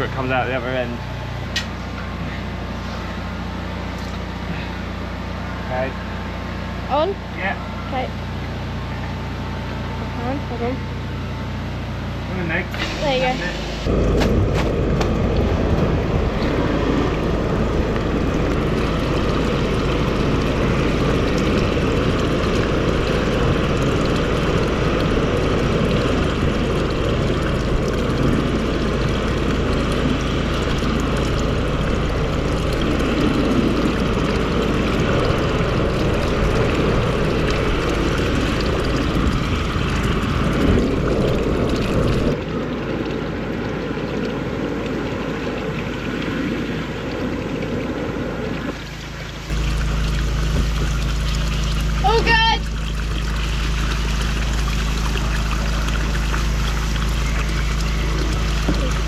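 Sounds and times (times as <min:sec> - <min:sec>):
machine engine running: 0:00.0 - 0:43.9, 0:45.4 - 0:59.0
water flowing: 0:00.0 - 0:59.0.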